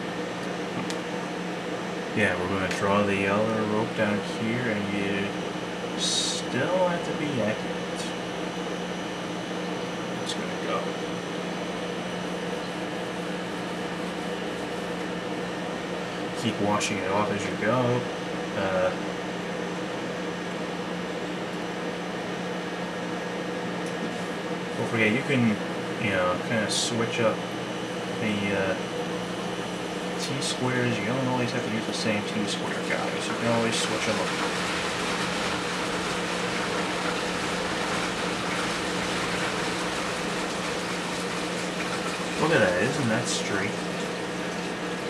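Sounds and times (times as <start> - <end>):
low constant hum: 0.0 - 21.8, 23.8 - 45.0.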